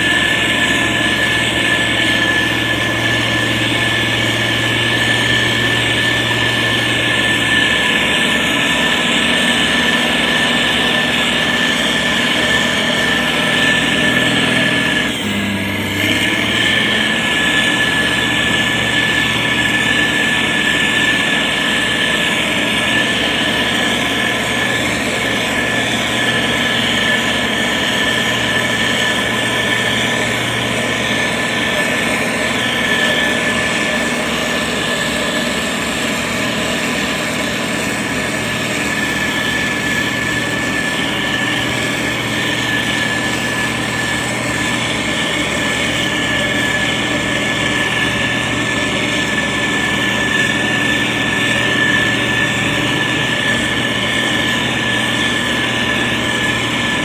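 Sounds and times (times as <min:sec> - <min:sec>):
motor grader diesel engine: 0:00.0 - 0:57.0.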